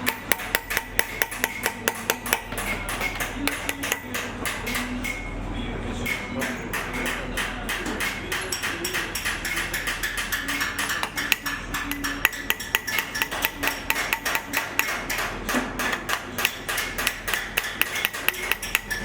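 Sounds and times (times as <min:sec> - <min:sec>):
hammer tapping on sheet copper: 0:00.0 - 0:05.3, 0:06.0 - 0:19.0.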